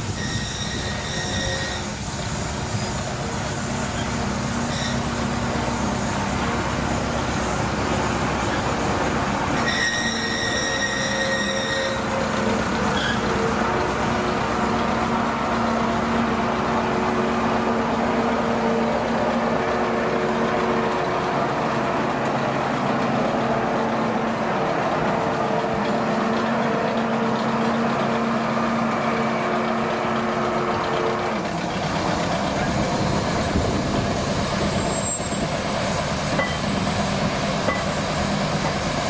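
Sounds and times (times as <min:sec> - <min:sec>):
train engine hum: 0:00.0 - 0:39.0.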